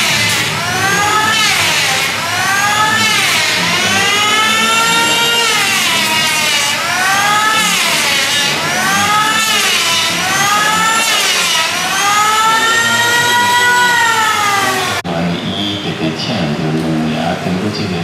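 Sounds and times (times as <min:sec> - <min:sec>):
siren wailing: 0:00.0 - 0:15.7.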